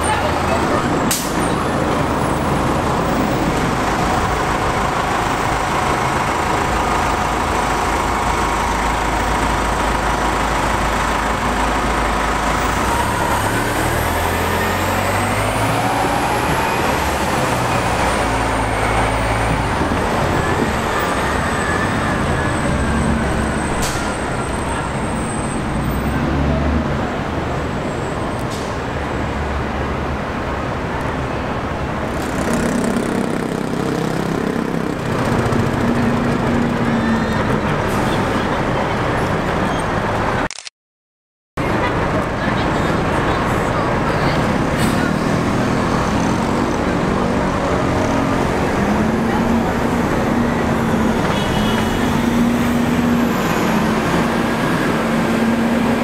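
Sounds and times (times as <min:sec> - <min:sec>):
diesel bus engine: 0:00.0 - 0:40.5, 0:41.6 - 0:56.0
city traffic: 0:00.0 - 0:40.7, 0:41.6 - 0:56.0.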